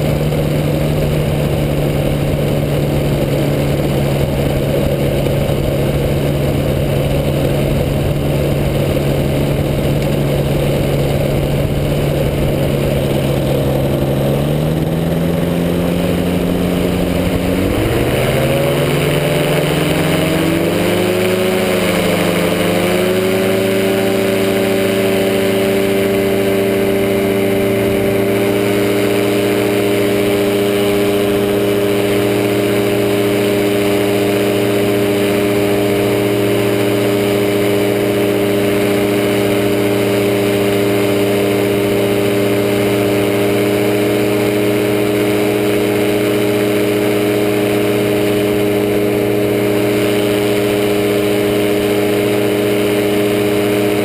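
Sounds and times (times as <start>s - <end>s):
engine and propeller droning: 0.0s - 54.0s.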